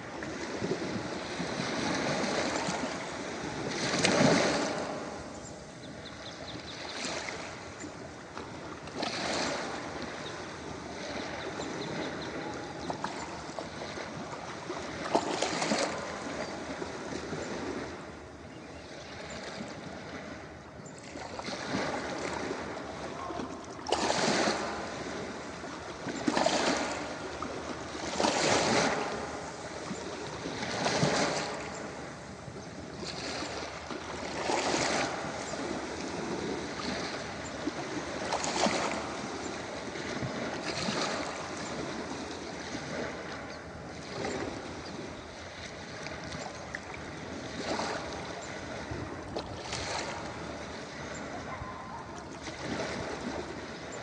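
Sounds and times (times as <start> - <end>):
ocean waves breaking on a beach: 0.0 - 54.0.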